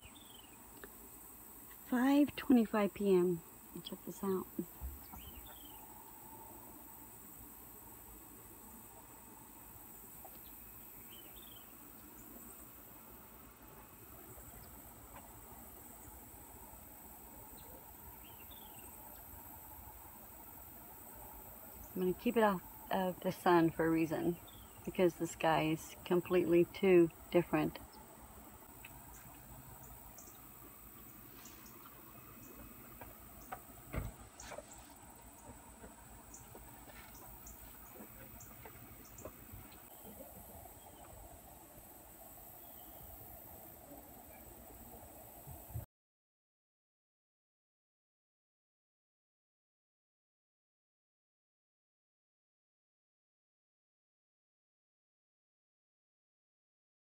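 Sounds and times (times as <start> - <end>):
insects chirping: 0.0 - 45.7.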